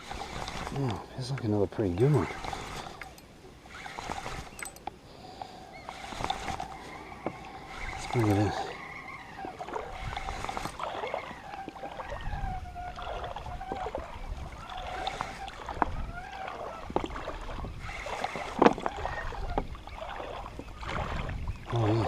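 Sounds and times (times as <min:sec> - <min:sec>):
fishing reel whirring: 0:00.0 - 0:22.0
reel clicks: 0:00.0 - 0:22.0.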